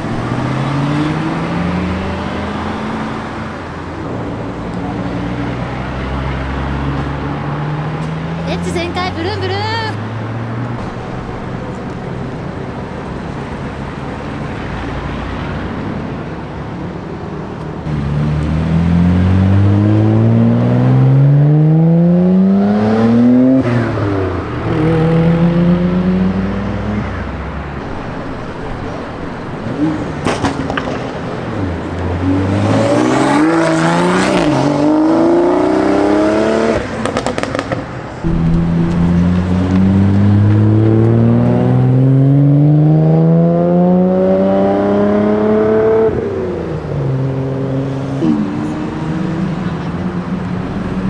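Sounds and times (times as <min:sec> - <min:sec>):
car engines idling: 0:00.0 - 0:20.4, 0:23.7 - 0:35.8, 0:36.7 - 0:43.0, 0:46.1 - 0:51.0
car accelerating hard: 0:00.0 - 0:51.0.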